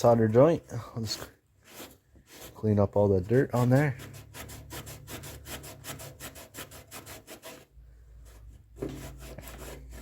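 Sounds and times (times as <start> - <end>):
quick scrubbing strokes: 0.0 - 10.0.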